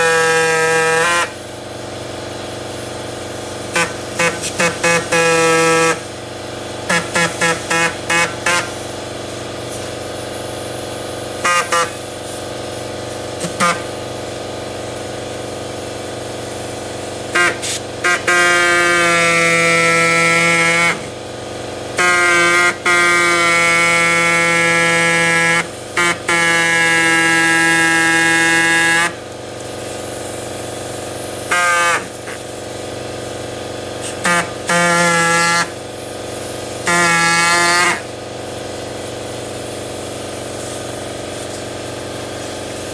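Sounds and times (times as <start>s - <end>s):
power tool buzzing: 0.0s - 42.9s.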